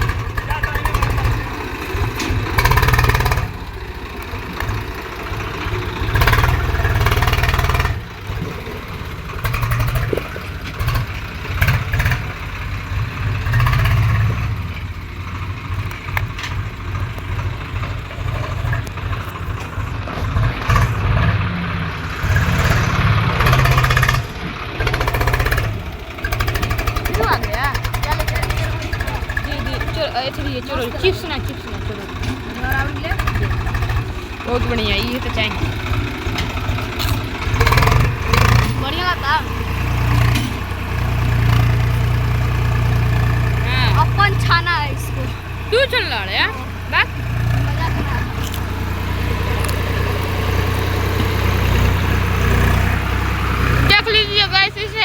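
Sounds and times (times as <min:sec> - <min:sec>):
tractor engine revving: 0:00.0 - 0:55.0.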